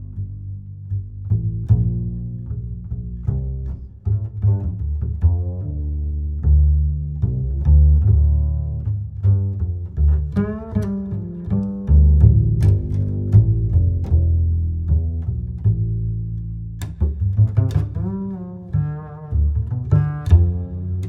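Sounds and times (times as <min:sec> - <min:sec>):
deep sustained bass notes: 0:00.0 - 0:21.0.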